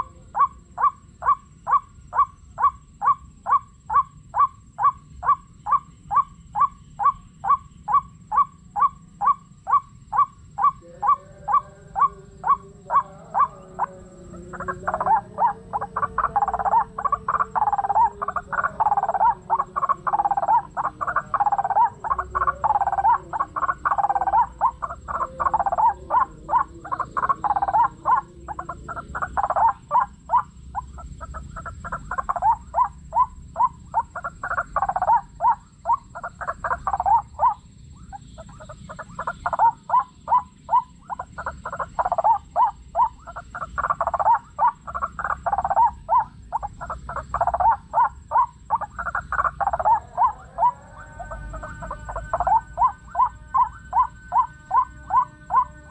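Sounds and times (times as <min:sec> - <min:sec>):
waterhen calls: 0:00.0 - 0:55.9.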